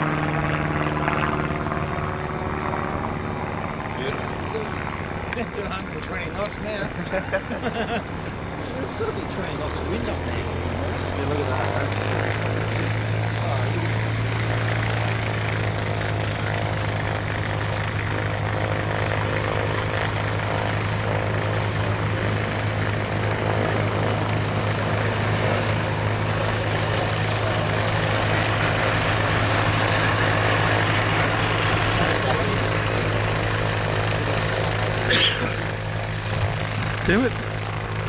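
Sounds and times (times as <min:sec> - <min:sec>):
propeller plane droning overhead: 0:00.0 - 0:38.0.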